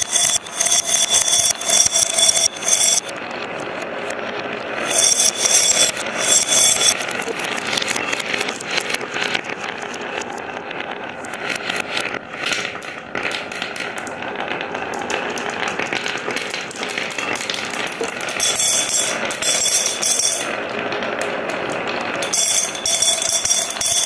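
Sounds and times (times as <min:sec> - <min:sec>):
marbles rattling down a track: 0:00.0 - 0:03.1, 0:04.8 - 0:24.0.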